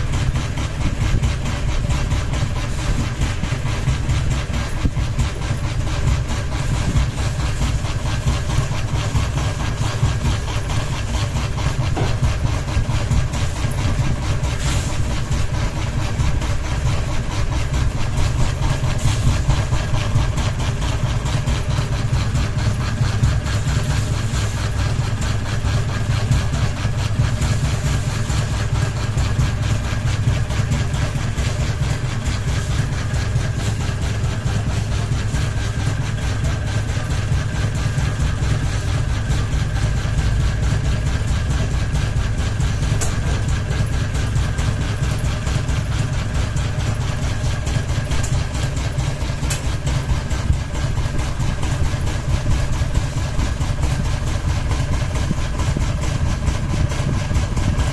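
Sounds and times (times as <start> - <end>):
wobbling ceiling fan humming: 0.0 - 57.9.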